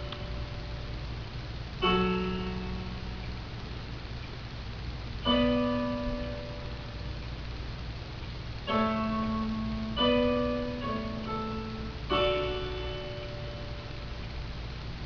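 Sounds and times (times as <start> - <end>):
low steady hum: 0.0 - 15.0
piano chords ringing: 0.0 - 15.0.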